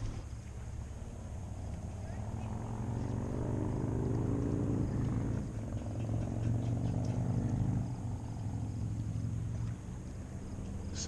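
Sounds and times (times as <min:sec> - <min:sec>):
watercraft engine droning: 0:00.0 - 0:11.0.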